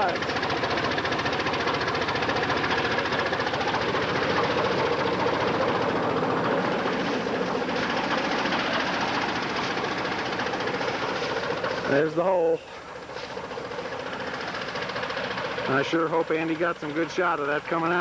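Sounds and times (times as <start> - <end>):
bulldozer engine running: 0.0 - 18.0.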